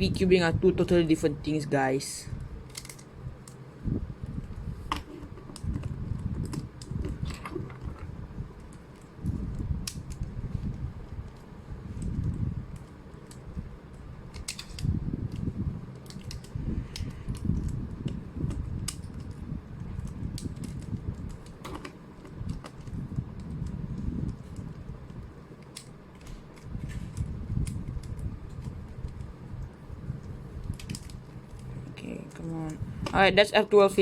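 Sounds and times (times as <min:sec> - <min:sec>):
low handling rumble: 0:00.0 - 0:34.0.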